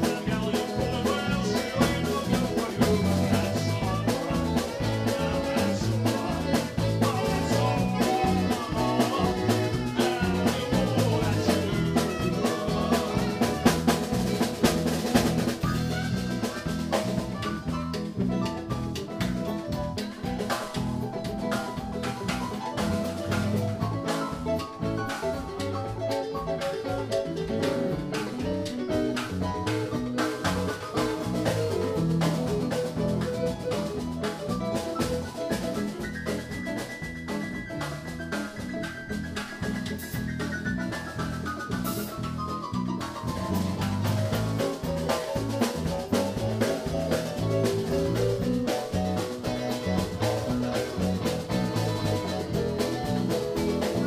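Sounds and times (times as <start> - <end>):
drum kit: 0.0 - 54.0
electronic keyboard: 0.0 - 54.0.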